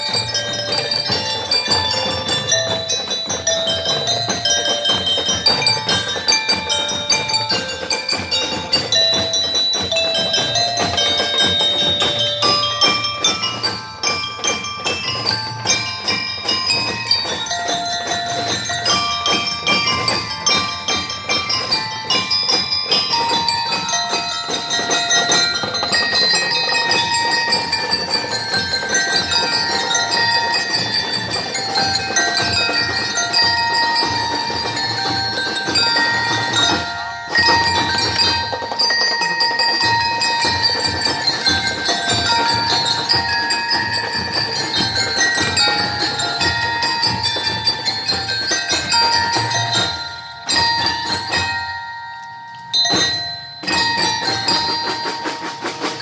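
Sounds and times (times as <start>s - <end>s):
steady drum beat: 0.0s - 52.0s, 52.7s - 56.0s
bell lyres playing melody: 0.0s - 56.0s.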